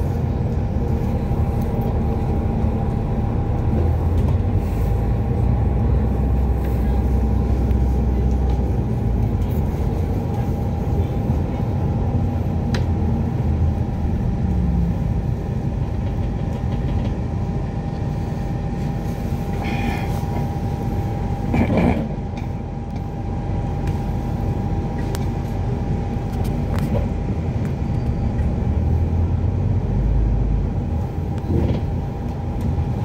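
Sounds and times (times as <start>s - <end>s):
bus drive and road rumble: 0.0s - 33.0s.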